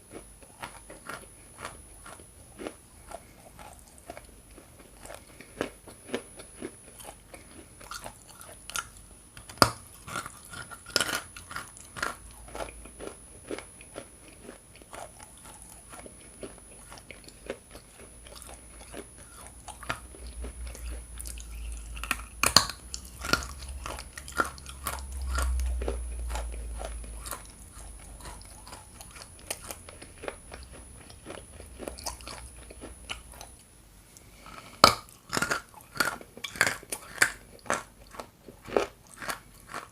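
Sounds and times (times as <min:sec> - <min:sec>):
crunchy chewing: 0:00.0 - 0:33.6, 0:34.2 - 0:39.9.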